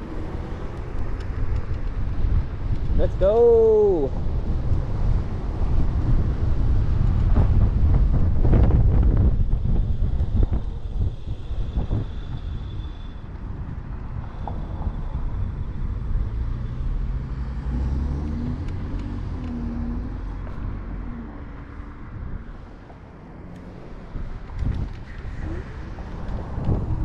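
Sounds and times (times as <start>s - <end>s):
scooter road rumble: 0.0s - 27.0s
wind rushing over microphone: 0.0s - 27.0s.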